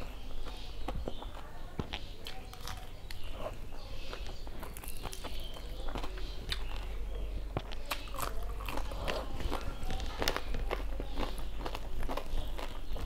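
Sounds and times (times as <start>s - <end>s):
wet chewing and lip smacks: 0.0s - 7.0s, 7.6s - 13.0s
fingers squishing rice on a plate: 0.0s - 13.0s.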